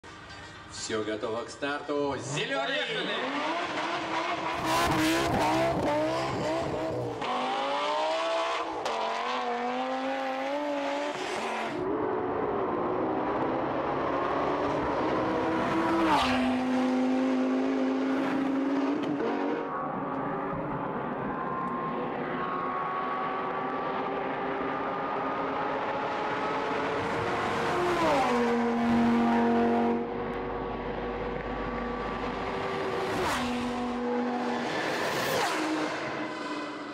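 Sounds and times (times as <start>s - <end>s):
sports car engines at full throttle: 2.4s - 36.9s.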